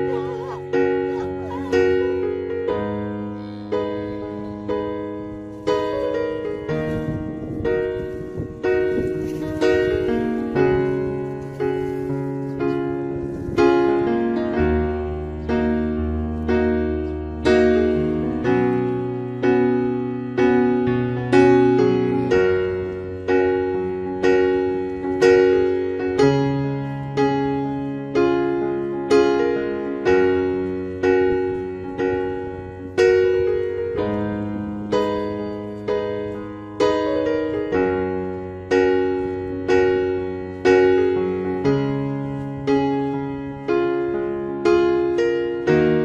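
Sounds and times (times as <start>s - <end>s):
slow piano music: 0.0s - 46.0s.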